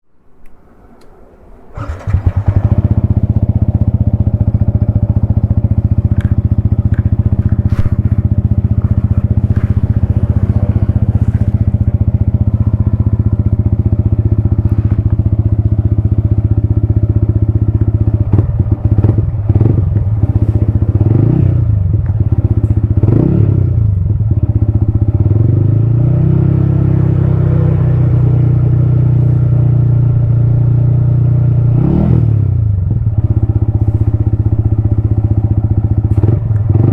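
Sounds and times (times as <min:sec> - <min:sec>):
motorcycle engine idling and revving: 0:01.6 - 0:36.9.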